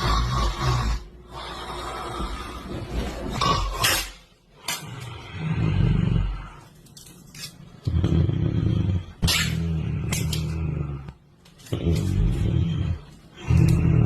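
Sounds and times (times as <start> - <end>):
person snoring: 0.0 - 4.1, 4.7 - 6.7, 7.9 - 14.0.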